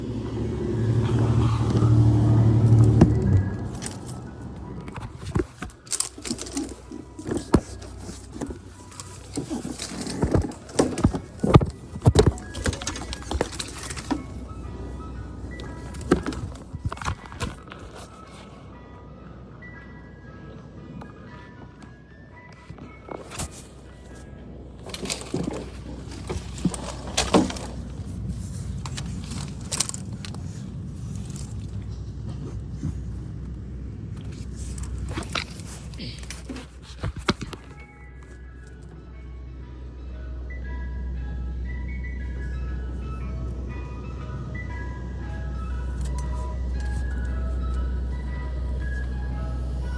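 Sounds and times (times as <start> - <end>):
vehicle engine rumbling: 0.0 - 49.9.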